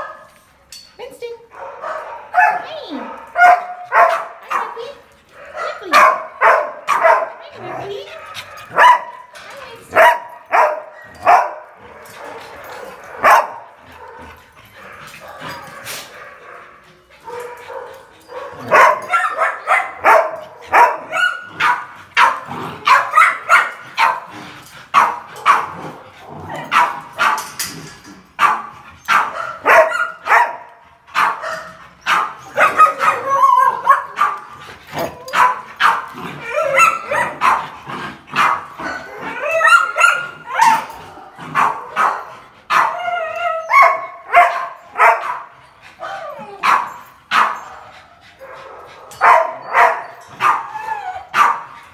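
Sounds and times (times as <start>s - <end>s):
puppies barking and yipping: 1.5s - 27.7s, 28.4s - 51.9s.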